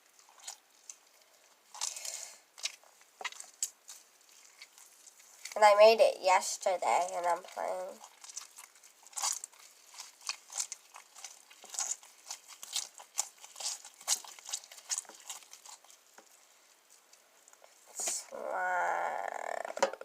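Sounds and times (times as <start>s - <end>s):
slime squished and pulled by hand: 0.0s - 5.7s, 7.0s - 18.3s.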